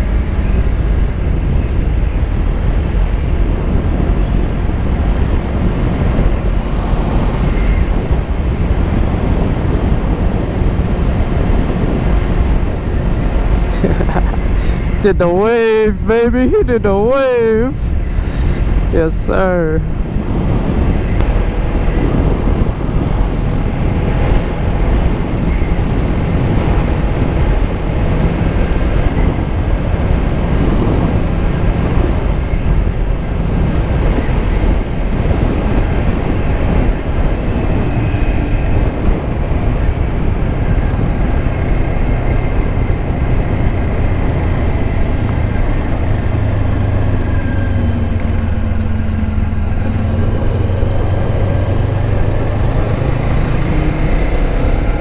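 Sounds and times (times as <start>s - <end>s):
wind and road rush: 0.0s - 55.0s.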